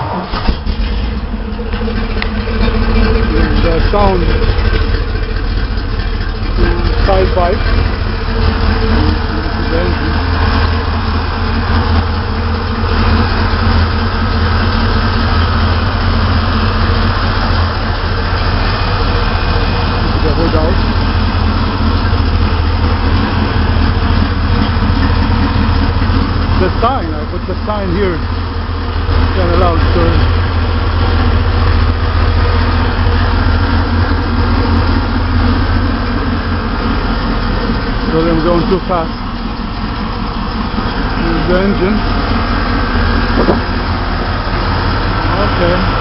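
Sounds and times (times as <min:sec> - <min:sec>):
engine idling deep rumble: 0:00.0 - 0:46.0.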